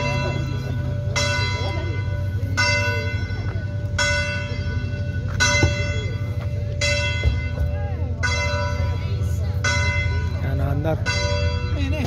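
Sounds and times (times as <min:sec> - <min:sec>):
church bell tolling: 0:00.0 - 0:12.0.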